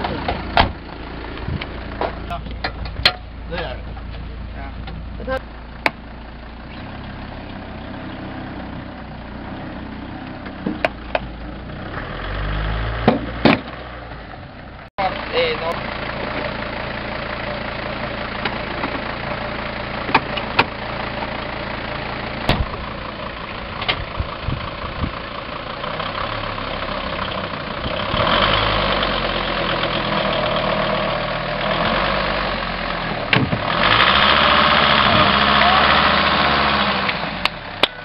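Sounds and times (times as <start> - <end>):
vehicle engine idling and revving: 0.0 - 38.0.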